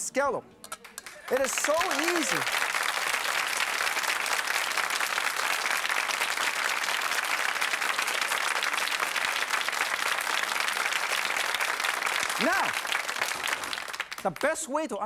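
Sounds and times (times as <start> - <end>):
audience applauding: 0.8 - 14.6.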